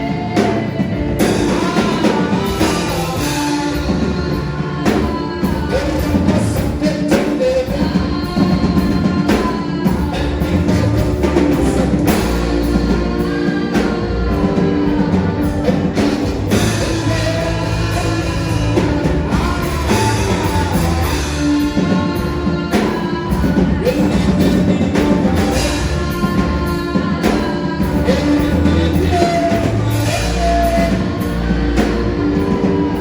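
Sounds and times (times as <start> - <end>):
gospel band with drum kit: 0.0 - 33.0
person singing: 0.0 - 33.0.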